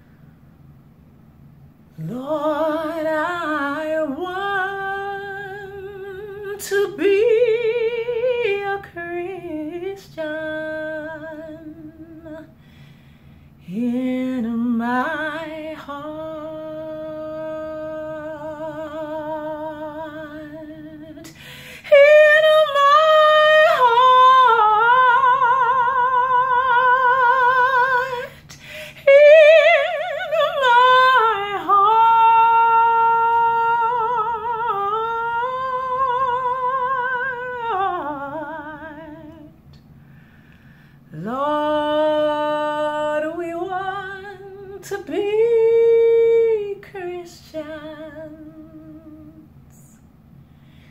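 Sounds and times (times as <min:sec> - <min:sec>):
woman singing unaccompanied: 0:02.0 - 0:12.6, 0:13.6 - 0:39.8, 0:41.1 - 0:50.0.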